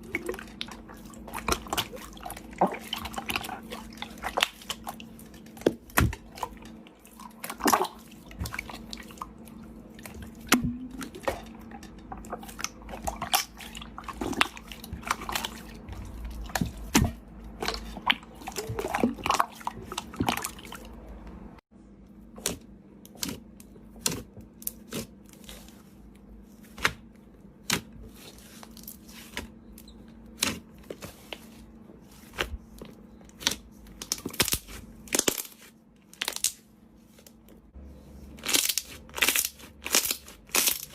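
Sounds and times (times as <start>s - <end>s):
slime squishing with wet clicks: 0.0s - 21.5s, 22.1s - 31.5s, 32.2s - 40.9s
faint low hum: 0.0s - 40.0s.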